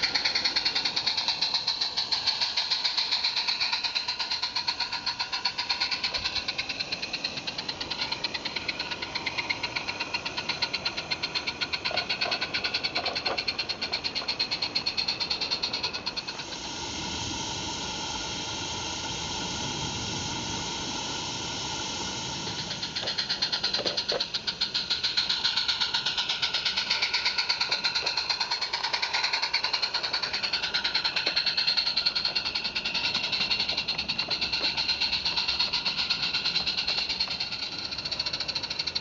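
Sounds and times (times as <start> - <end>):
fast chuffing exhaust beats: 0.0 - 39.0
small wheels clicking on rail: 0.0 - 39.0
steam locomotive hissing: 0.0 - 39.0.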